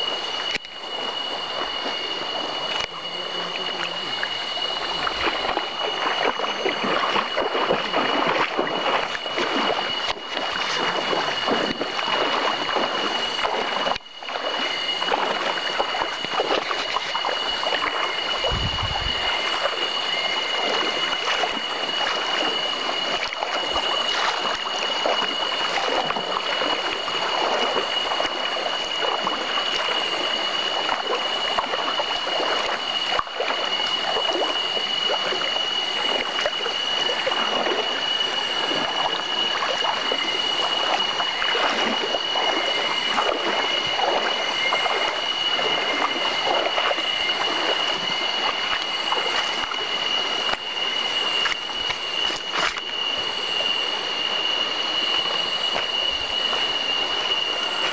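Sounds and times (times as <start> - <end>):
high-pitched whine: 0.0 - 57.9.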